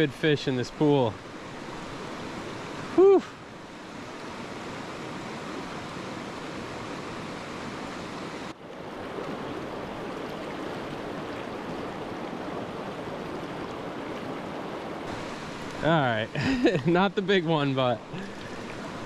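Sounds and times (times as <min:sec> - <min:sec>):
creek water rushing over stones: 0:00.0 - 0:19.0.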